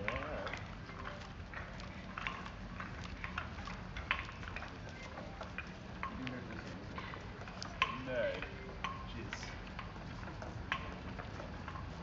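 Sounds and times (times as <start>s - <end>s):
wooden sandals clacking on pavement: 0.0s - 12.0s.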